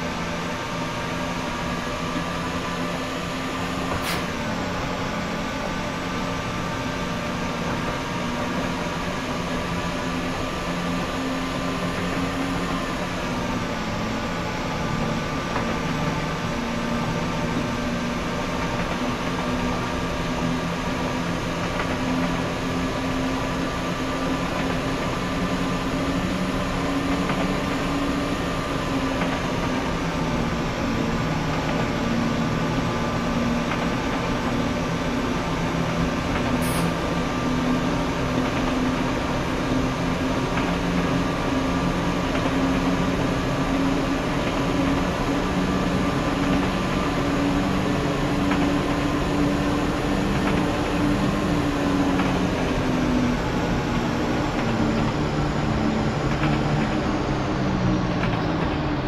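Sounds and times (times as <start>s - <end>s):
diesel train engine drone: 0.0s - 59.0s.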